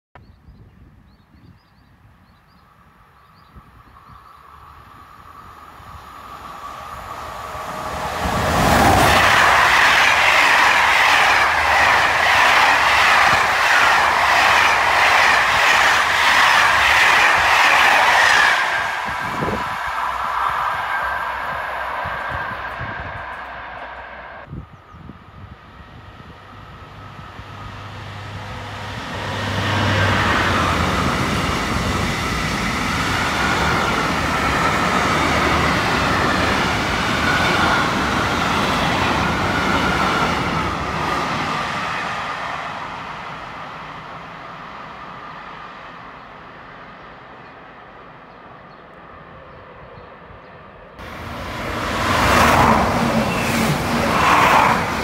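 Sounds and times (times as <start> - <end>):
train passing with whine: 2.6 - 55.0.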